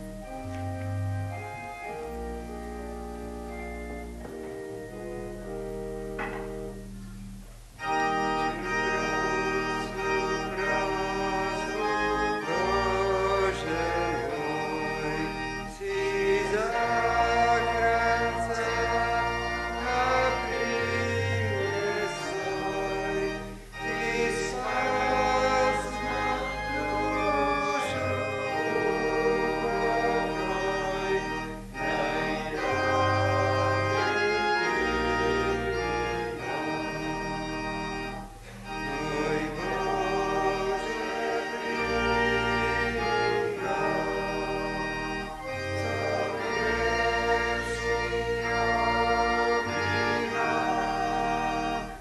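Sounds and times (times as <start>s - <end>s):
church organ chords: 0.0s - 52.0s
congregation singing a hymn: 7.8s - 52.0s.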